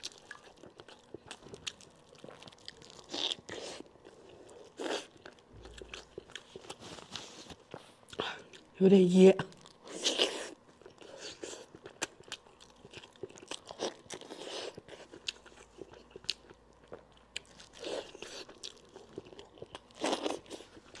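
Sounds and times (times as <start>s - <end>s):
chewing and biting: 0.0s - 8.7s, 9.6s - 21.0s.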